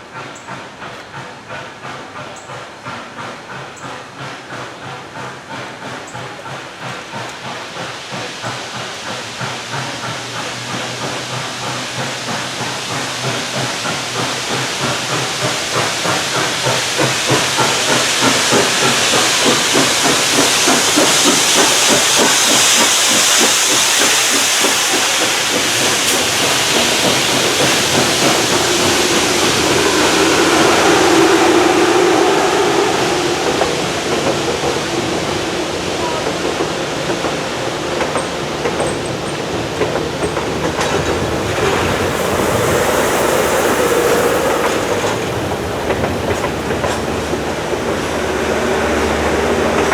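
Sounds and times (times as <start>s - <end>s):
steam hissing: 0.0s - 49.9s
steam locomotive exhaust chuffs: 0.0s - 49.9s.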